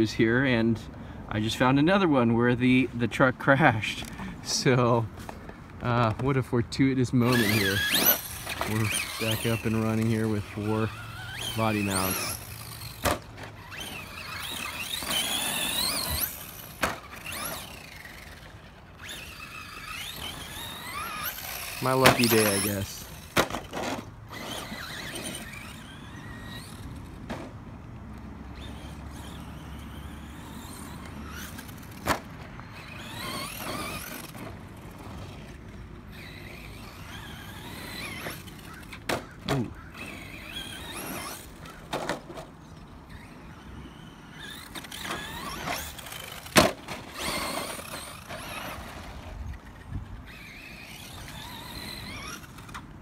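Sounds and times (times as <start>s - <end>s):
electric motor whining: 7.2s - 27.4s, 28.4s - 53.0s.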